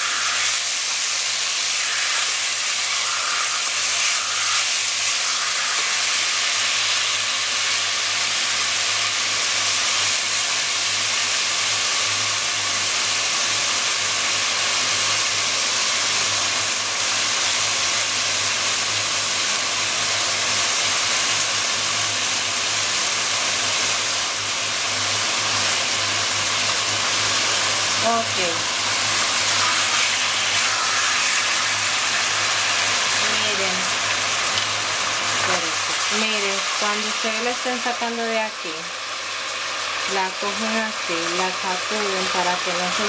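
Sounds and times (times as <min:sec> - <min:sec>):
meat sizzling in hot oil: 0:00.0 - 0:43.0.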